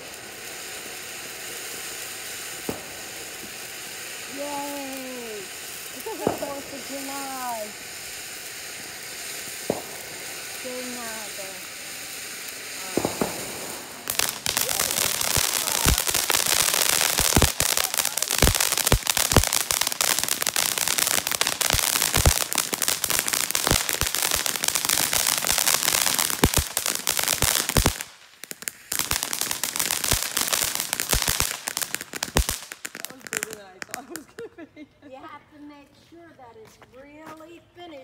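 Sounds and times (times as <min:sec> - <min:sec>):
firework fountain hissing and crackling: 0:00.0 - 0:36.2.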